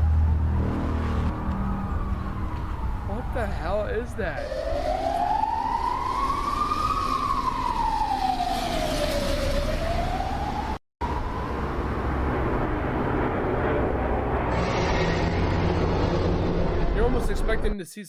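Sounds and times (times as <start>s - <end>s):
emergency vehicle siren wailing: 0.0s - 17.3s
low rumbling noise: 0.0s - 17.7s.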